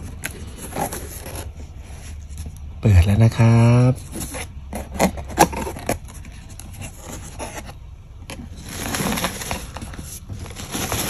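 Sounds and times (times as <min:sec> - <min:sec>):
cardboard flaps rustling: 0:00.0 - 0:02.6, 0:04.0 - 0:11.0.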